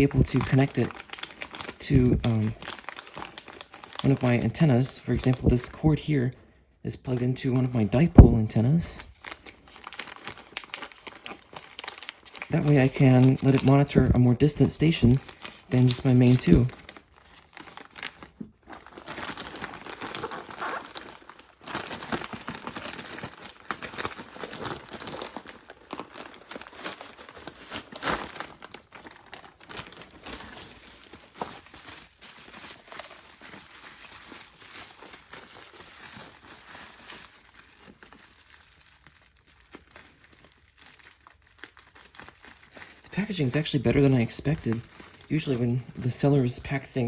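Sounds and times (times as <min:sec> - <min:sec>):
plastic packaging crinkling: 0:00.0 - 0:05.9, 0:07.2 - 0:47.0.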